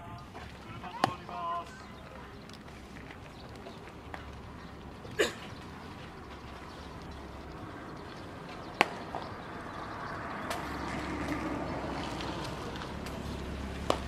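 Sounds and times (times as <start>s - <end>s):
open-air background hiss: 0.0s - 14.0s.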